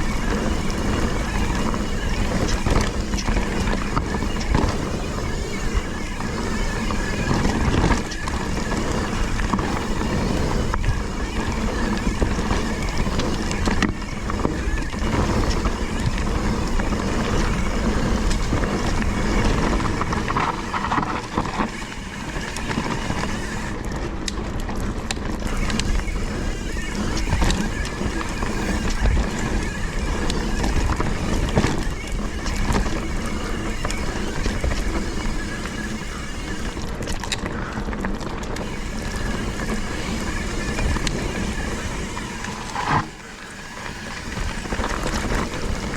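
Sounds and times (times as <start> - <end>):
bike clicks and rattles: 0.0 - 45.9
tyres rolling on dirt trail: 0.0 - 45.9.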